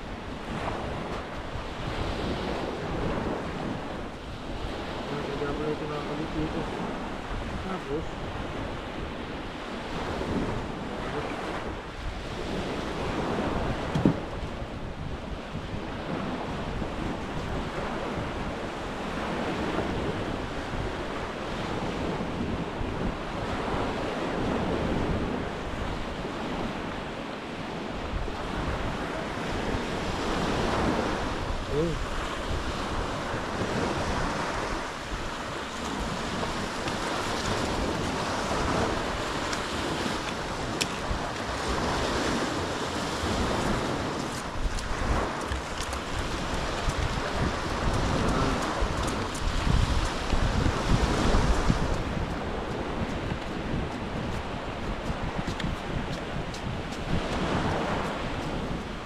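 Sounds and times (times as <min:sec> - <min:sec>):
surf breaking on beach: 0:00.0 - 0:59.0
wind buffeting microphone: 0:00.0 - 0:59.0.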